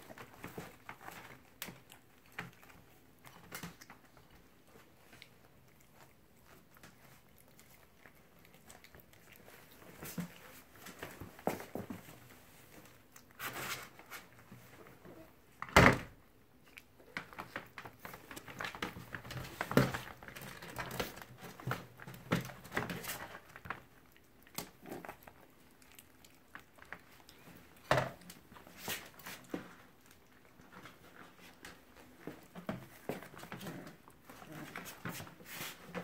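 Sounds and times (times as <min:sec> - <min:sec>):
puppies rustling and scratching: 0:00.0 - 0:36.0.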